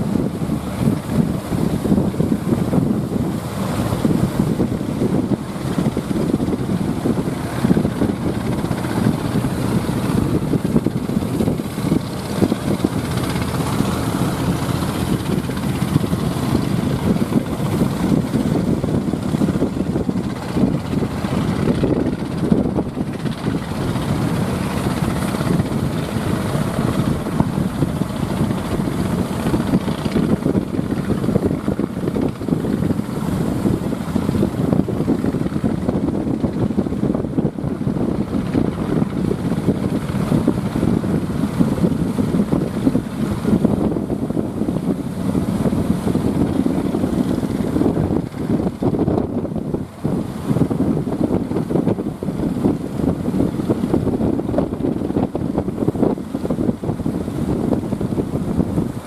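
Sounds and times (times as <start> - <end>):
strong wind buffeting microphone: 0.0 - 59.0
surf washing: 0.0 - 59.0.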